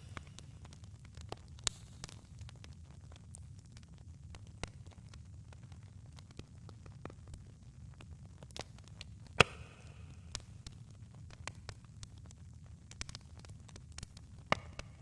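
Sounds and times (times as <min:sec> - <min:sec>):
campfire pops and snaps: 0:00.0 - 0:15.0.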